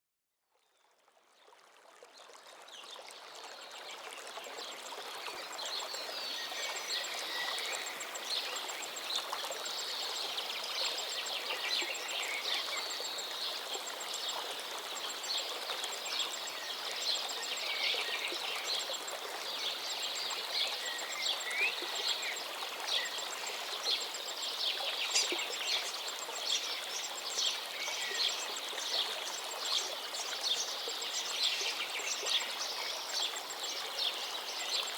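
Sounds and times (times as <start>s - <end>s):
running stream: 0.4s - 34.9s.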